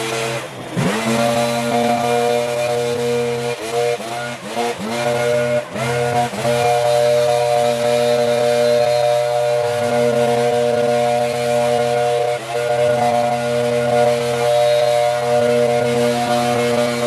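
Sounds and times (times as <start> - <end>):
small petrol engine running: 0.0 - 17.0.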